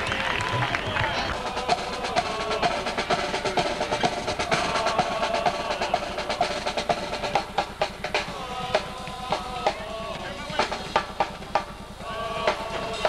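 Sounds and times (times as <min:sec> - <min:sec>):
drum beat: 0:00.0 - 0:13.0
marching band playing: 0:00.0 - 0:13.0.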